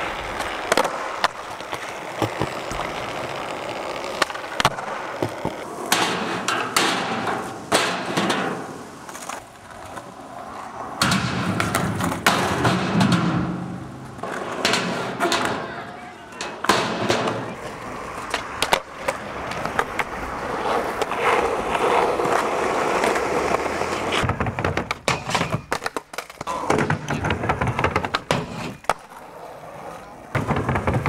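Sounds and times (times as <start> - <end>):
skateboard popping and landing: 0.0 - 31.0
skateboard wheels rolling on asphalt: 0.0 - 31.0.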